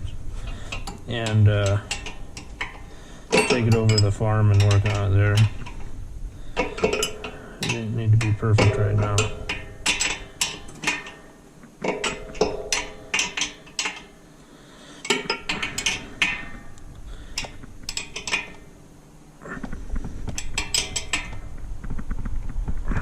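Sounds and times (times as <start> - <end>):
tools and bolts clinking on steel: 0.0 - 14.4, 15.0 - 18.8, 20.3 - 21.6.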